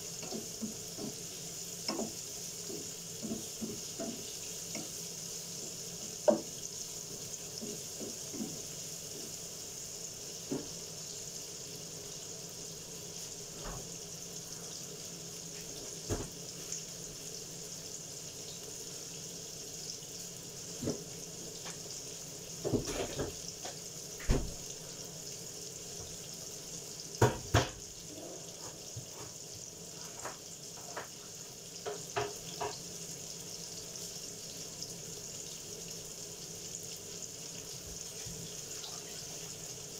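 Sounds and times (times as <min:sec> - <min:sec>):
onions sizzling in a frying pan: 0:00.0 - 0:39.9.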